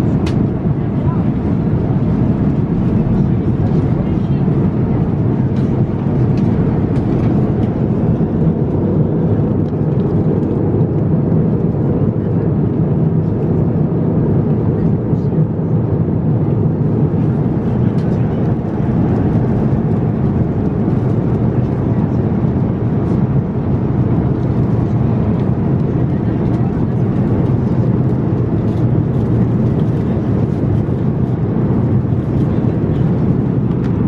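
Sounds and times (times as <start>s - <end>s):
airplane cabin low roar: 0.0s - 34.0s.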